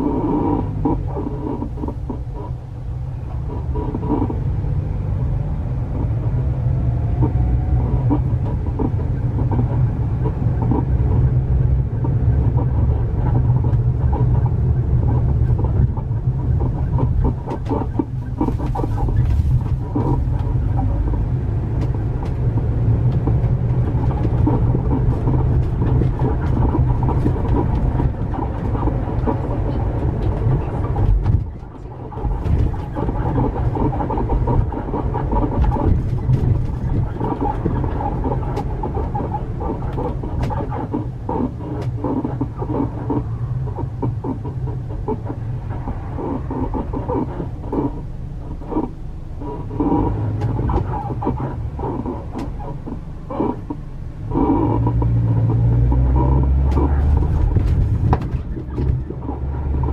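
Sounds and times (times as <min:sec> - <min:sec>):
van road and engine rumble: 0:00.0 - 0:59.9.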